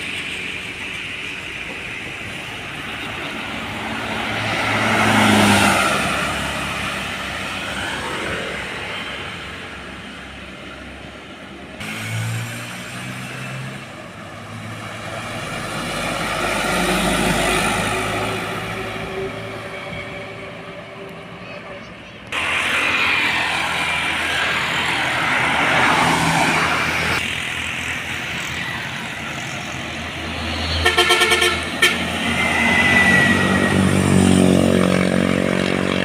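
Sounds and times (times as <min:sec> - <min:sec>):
heavy trucks driving past: 0:00.0 - 0:36.0.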